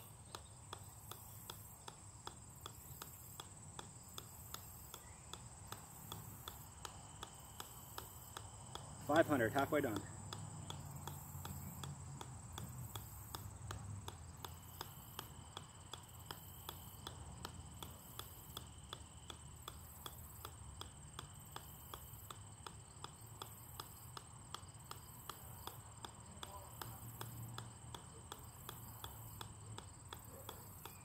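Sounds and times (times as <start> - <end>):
ball bouncing on metal: 0.3 - 31.0.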